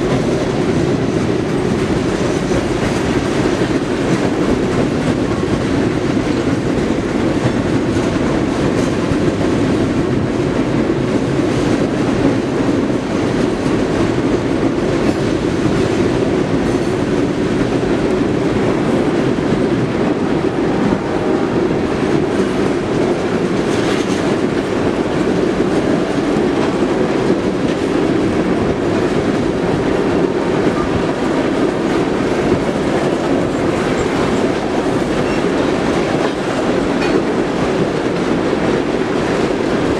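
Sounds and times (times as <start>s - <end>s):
freight train cars rolling past: 0.0s - 39.9s
steel wheels clacking on rails: 0.0s - 39.9s.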